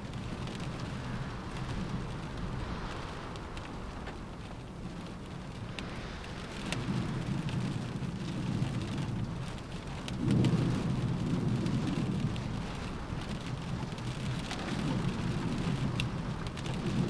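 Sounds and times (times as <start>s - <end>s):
low rumble: 0.0s - 17.0s
steady rain: 0.0s - 17.0s.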